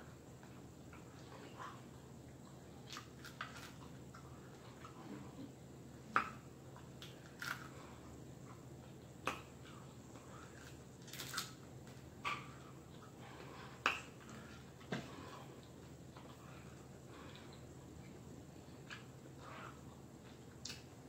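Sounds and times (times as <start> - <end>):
crunchy chewing: 0.0 - 21.0.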